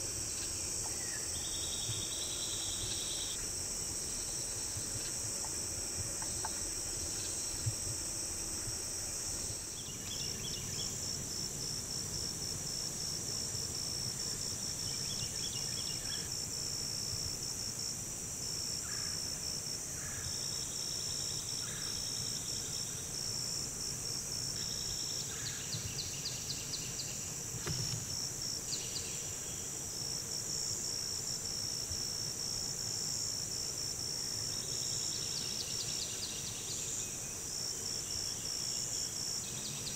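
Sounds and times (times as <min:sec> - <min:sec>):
insects buzzing and chirping: 0:00.0 - 0:39.9
low insect trills: 0:00.0 - 0:39.9.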